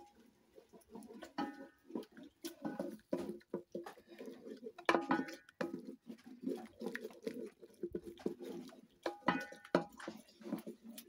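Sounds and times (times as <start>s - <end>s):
metal spoon scraping in a pot: 0.0s - 11.0s.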